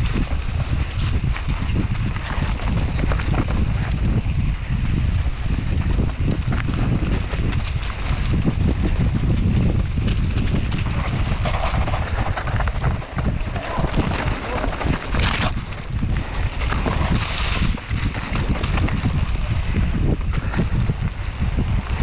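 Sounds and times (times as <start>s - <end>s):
mountain bike rumbling and rattling: 0.0s - 22.0s
wind buffeting microphone: 0.0s - 22.0s.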